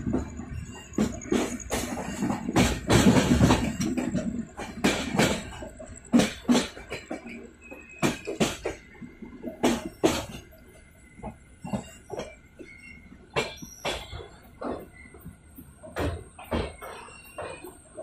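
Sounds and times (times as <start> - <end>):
train wheels knocking over rail joints: 0.0 - 18.0.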